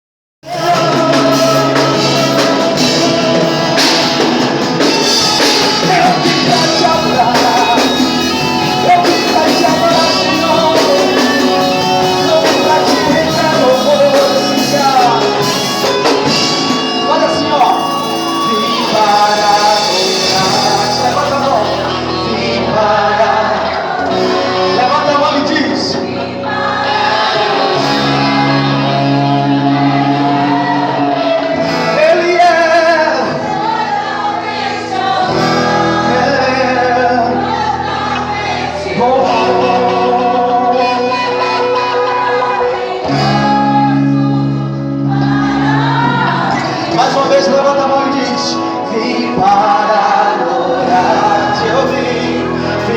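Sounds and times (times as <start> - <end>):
gospel singers: 0.4 - 52.9
instrumental accompaniment: 0.5 - 52.9.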